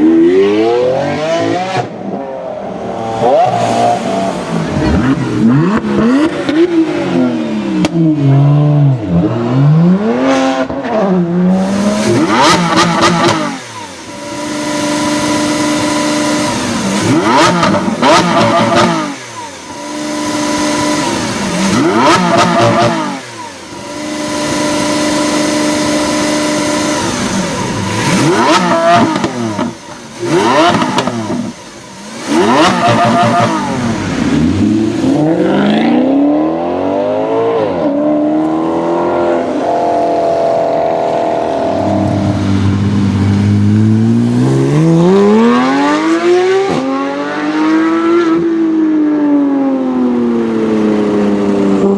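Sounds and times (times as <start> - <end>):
sports car engine revving: 0.0 - 51.9.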